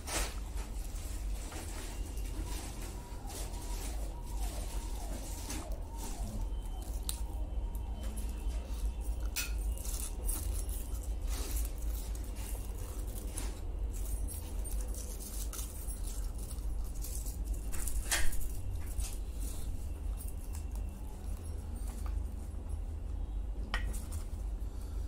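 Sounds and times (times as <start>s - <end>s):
aluminium foil crinkling and tearing: 0.0s - 22.5s.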